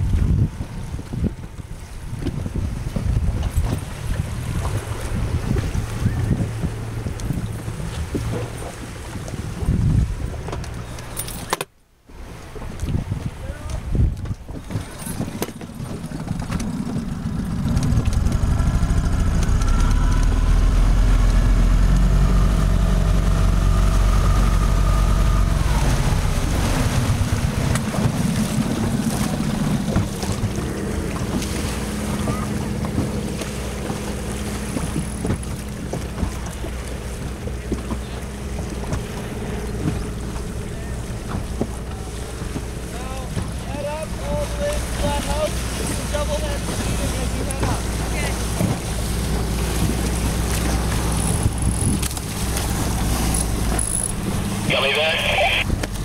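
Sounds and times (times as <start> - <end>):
wind on microphone: 0.0 - 11.0, 12.2 - 54.8
outboard motor running: 0.0 - 11.6, 12.2 - 56.0.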